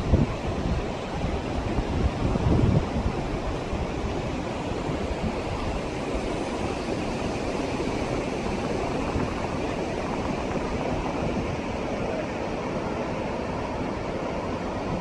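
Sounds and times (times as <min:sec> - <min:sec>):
surf rushing: 0:00.0 - 0:15.0
wind on microphone: 0:00.0 - 0:15.0.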